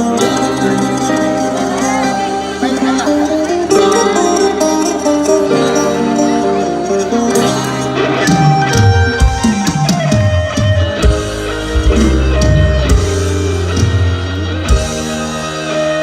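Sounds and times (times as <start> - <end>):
bass guitar: 0.0 - 16.0
drum kit: 0.0 - 16.0
guitar melody: 0.0 - 16.0.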